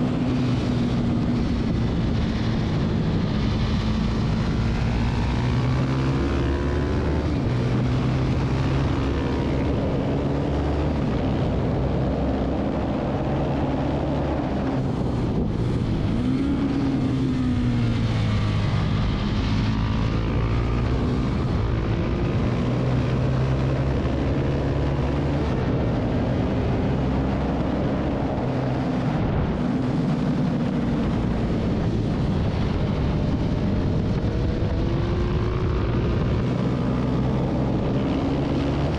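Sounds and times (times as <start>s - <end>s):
motorcycle engine revving: 0.0s - 38.9s
wind on microphone: 0.0s - 38.9s.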